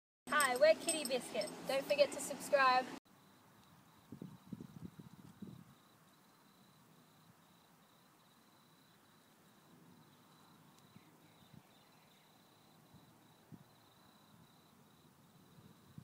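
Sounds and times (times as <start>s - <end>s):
high-pitched cricket trill: 3.1s - 16.0s.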